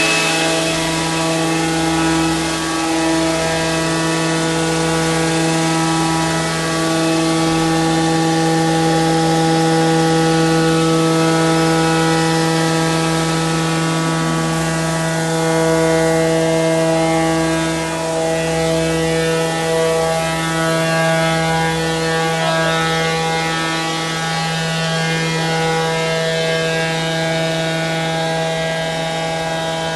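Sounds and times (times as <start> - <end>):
cnc router humming and whining: 0.0 - 29.9.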